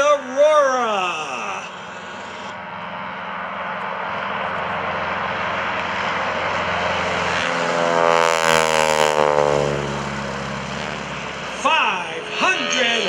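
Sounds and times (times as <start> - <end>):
propeller plane engine passing: 0.8 - 13.0.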